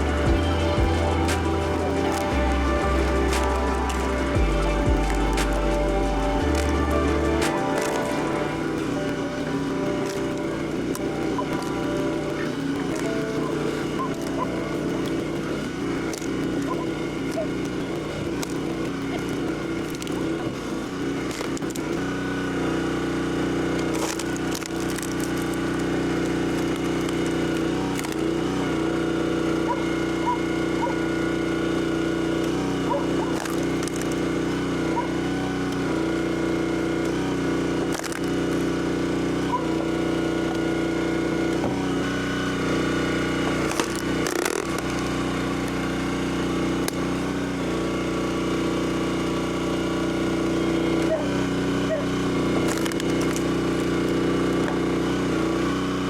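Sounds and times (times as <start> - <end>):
small gasoline engine running: 0.0 - 56.0.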